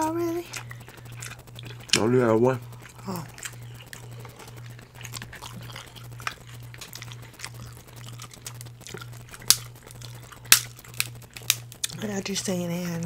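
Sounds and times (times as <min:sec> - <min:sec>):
chewing and crunching: 0:00.0 - 0:13.0
steady low hum: 0:00.0 - 0:13.0.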